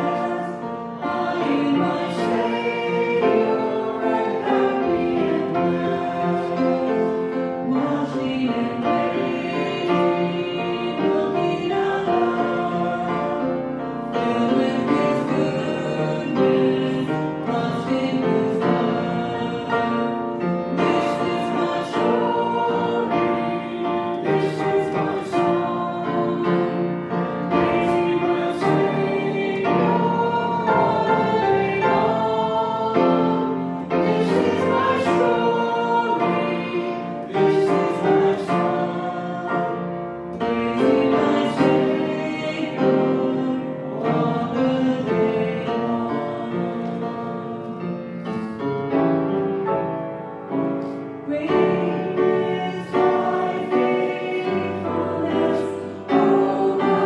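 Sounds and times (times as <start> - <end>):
piano accompaniment: 0.0 - 57.0.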